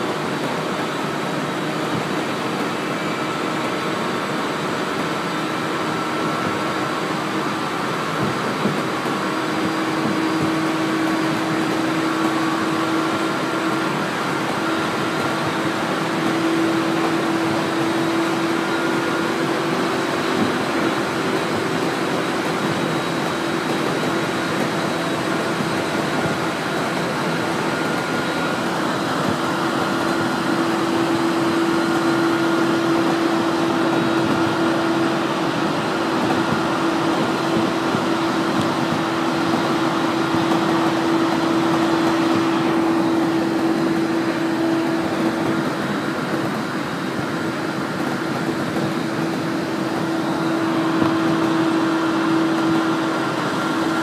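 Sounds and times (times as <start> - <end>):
wheels rushing on rail: 0.0 - 54.0.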